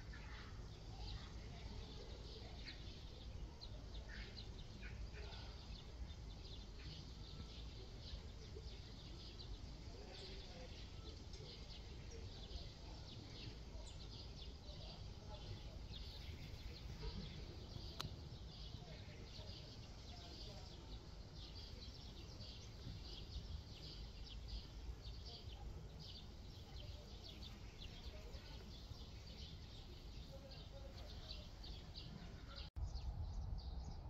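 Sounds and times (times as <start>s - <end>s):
low outdoor rumble: 0.0s - 34.0s
small birds chirping: 0.0s - 34.0s.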